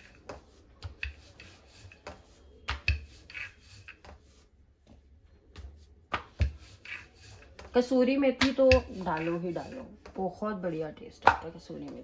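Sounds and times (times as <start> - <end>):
hands rubbing dough: 0.0 - 12.0.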